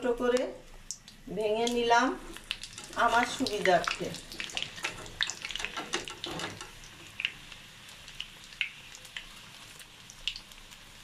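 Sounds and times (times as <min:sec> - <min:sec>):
food deep-frying in oil: 0:00.0 - 0:11.0
oil crackling and popping: 0:00.3 - 0:11.0.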